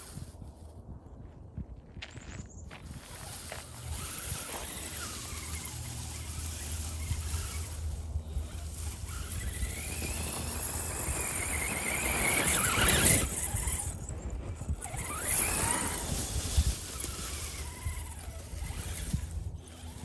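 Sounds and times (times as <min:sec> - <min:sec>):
electric motor and gears whining: 0:00.0 - 0:00.7, 0:02.7 - 0:20.0
rustling rush: 0:02.7 - 0:20.0.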